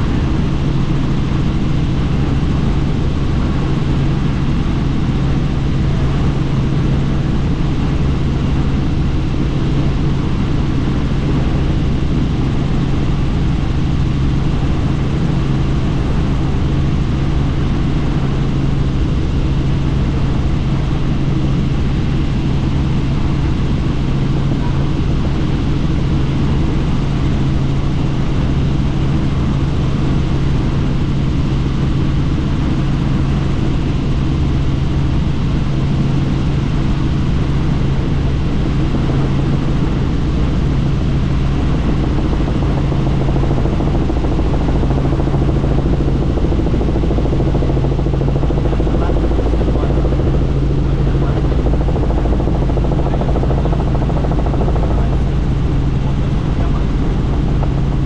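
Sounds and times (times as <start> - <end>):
helicopter cabin drone: 0.0 - 58.0.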